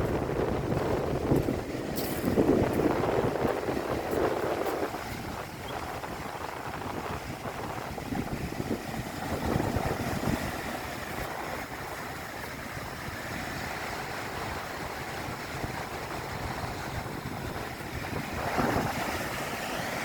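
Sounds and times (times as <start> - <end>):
waves breaking on shore: 0.0 - 20.0
wind buffeting microphone: 0.0 - 20.0.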